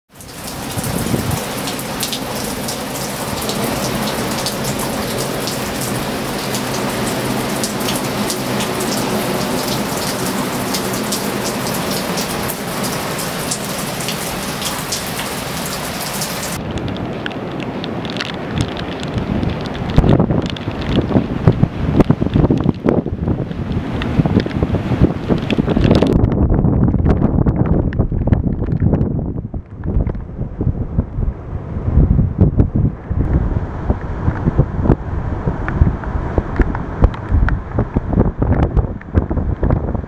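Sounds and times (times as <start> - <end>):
wind: 0.1 - 40.0
roar of breaking waves: 0.2 - 26.2, 29.7 - 40.0.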